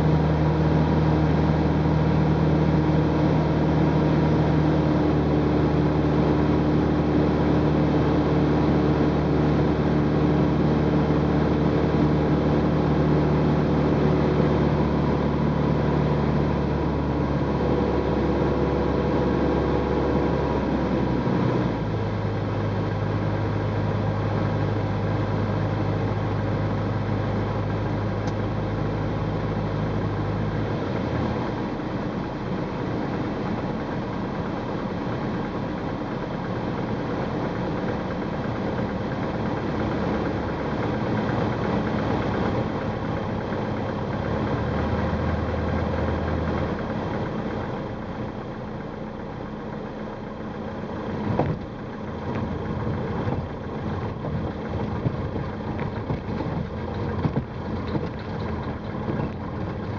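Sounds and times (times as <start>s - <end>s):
aircraft engine and propeller: 0.0s - 59.9s.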